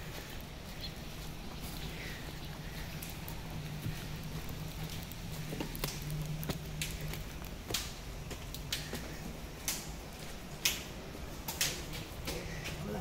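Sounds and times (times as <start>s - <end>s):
footsteps on stone: 0.0s - 10.7s.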